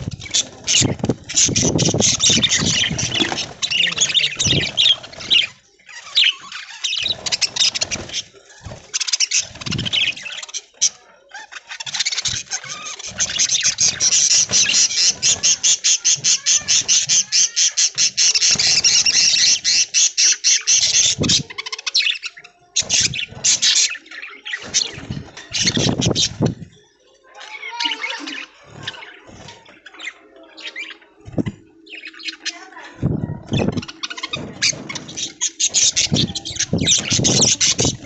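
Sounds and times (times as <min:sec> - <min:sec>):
budgerigars chattering and chirping: 0:00.0 - 0:26.7, 0:27.5 - 0:38.0.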